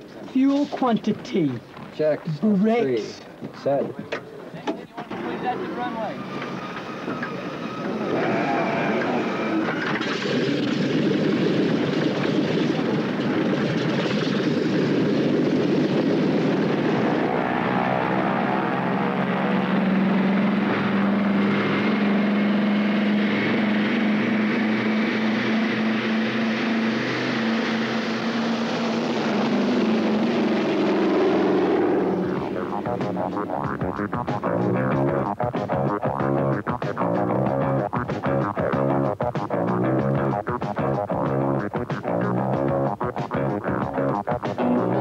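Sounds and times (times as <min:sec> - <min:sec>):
propeller plane engines droning: 0:00.0 - 0:45.0.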